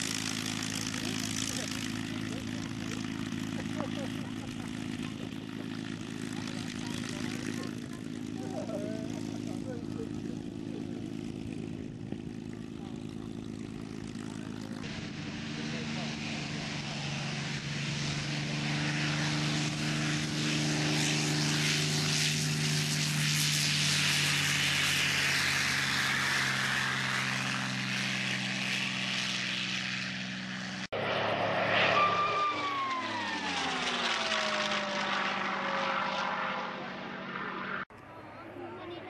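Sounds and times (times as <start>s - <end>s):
helicopter rotor turning: 0.0s - 39.0s
piston aero engines running: 0.0s - 39.0s
propeller plane passing overhead: 0.0s - 39.0s.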